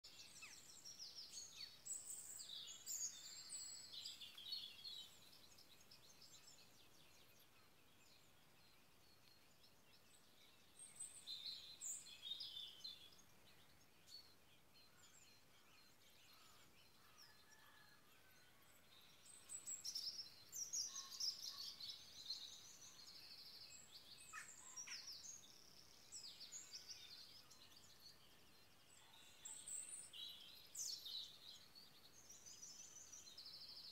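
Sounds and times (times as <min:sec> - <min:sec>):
faint songbirds chirping: 0:00.0 - 0:33.9.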